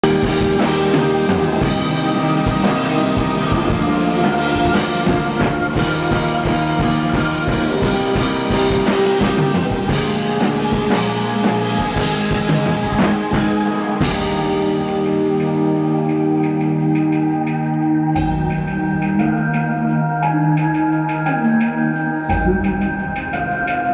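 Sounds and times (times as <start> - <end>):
sustained guitar chords: 0.0 - 19.3
indie rock band playing live: 0.0 - 19.6
drum kit: 0.0 - 19.7.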